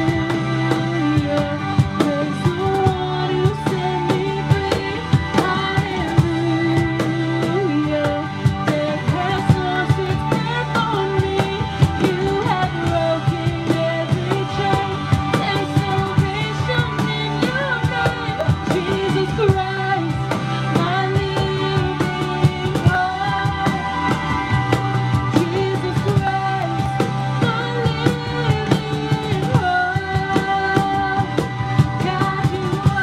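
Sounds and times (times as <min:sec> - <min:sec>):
cajon beat: 0:00.0 - 0:33.0
woman singing into a microphone: 0:00.0 - 0:33.0.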